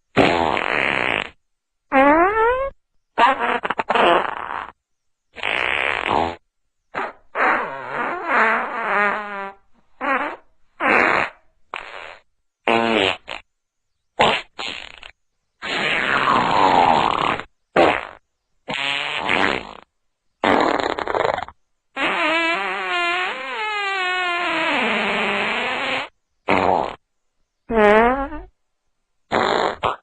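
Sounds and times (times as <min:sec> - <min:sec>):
fart sound effects: 0:00.1 - 0:04.8, 0:05.4 - 0:13.5, 0:14.2 - 0:27.0, 0:27.7 - 0:28.5, 0:29.3 - 0:30.0.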